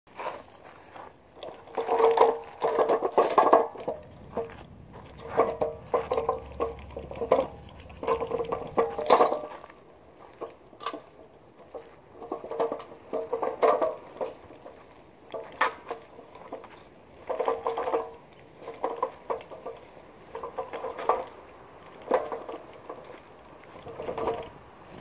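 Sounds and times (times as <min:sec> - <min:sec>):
magnetic sweeper rattling on wheels: 0:01.6 - 0:09.7, 0:12.2 - 0:25.0.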